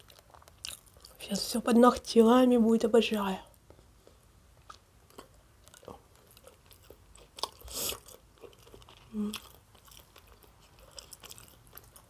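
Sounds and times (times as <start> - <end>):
person chewing and smacking: 0.0 - 1.2, 3.5 - 12.0.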